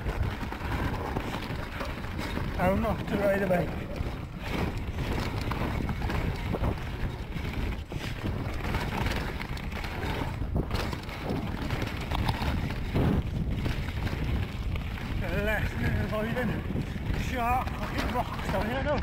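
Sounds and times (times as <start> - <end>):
bike rattling and knocking: 0.0 - 19.0
tyres crunching on stony trail: 0.0 - 19.0
wind buffeting microphone: 0.0 - 19.0.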